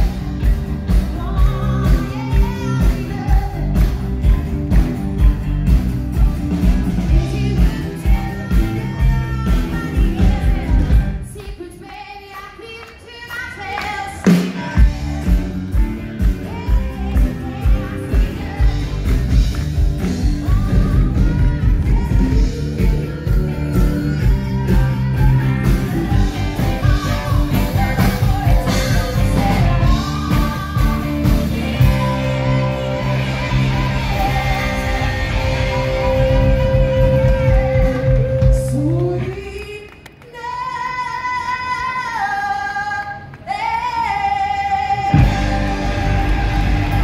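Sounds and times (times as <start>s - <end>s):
woman singing: 0.0s - 4.9s, 6.6s - 47.0s
rock band playing: 0.0s - 11.3s, 14.2s - 39.3s, 45.1s - 47.0s.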